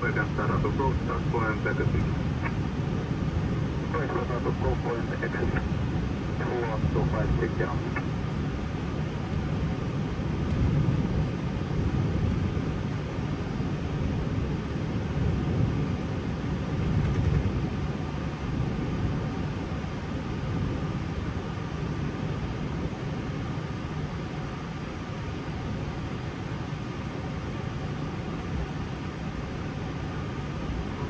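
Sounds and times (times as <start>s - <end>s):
aircraft cockpit rumble and hiss: 0.0s - 31.0s.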